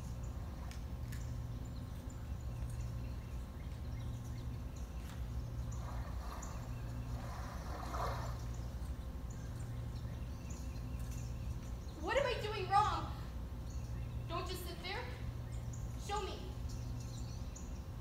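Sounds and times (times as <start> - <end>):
low hum of room tone: 0.0 - 18.0.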